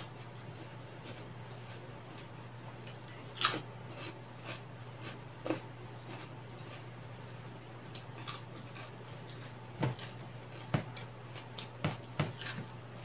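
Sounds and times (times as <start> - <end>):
person chewing food: 0.0 - 12.8.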